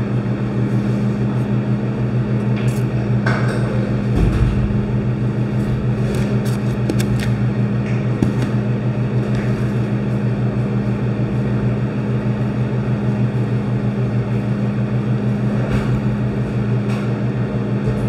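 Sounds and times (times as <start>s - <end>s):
loud mechanical drone: 0.0s - 18.0s.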